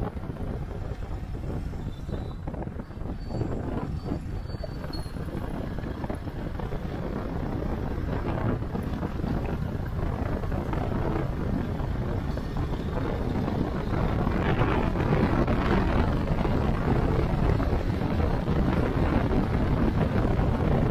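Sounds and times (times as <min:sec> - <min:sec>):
motorcycle engine running: 0:00.0 - 0:20.9
wind buffeting the microphone: 0:00.0 - 0:20.9.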